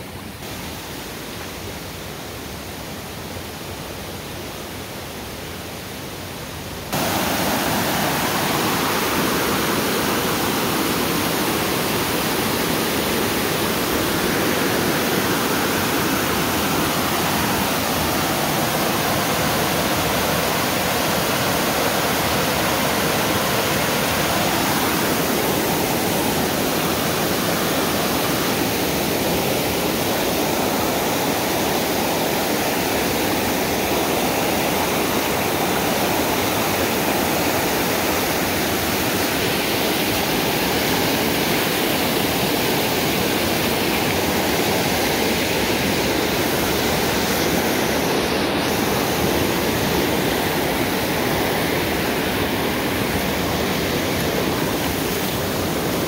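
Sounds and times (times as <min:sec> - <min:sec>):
water rushing over rocks: 0:06.4 - 0:56.0.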